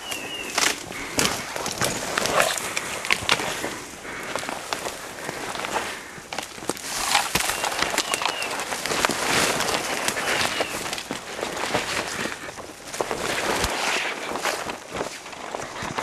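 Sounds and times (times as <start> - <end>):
twigs snapping: 0.0 - 16.0
undergrowth rustling: 0.0 - 16.0.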